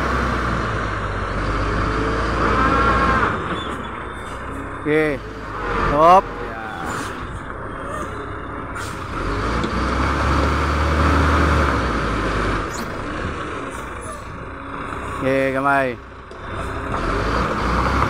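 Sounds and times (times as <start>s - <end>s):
truck diesel engine revving: 0.0s - 18.0s.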